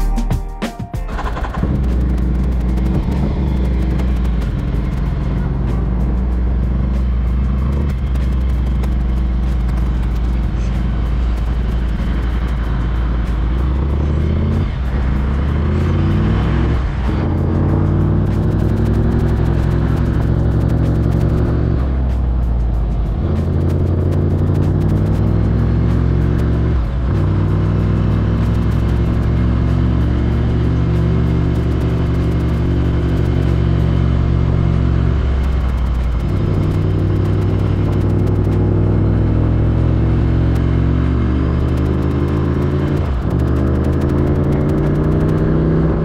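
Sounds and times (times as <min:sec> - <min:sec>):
motorcycle accelerating through gears: 0:01.1 - 0:46.0.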